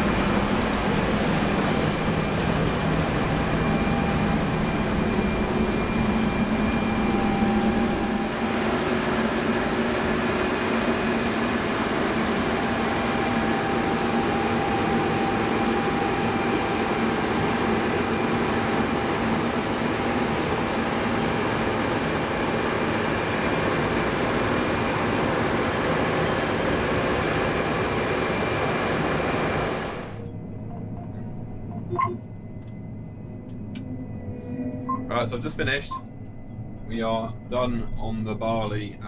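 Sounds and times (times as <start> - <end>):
combine harvester hum and rush: 0.0 - 39.0.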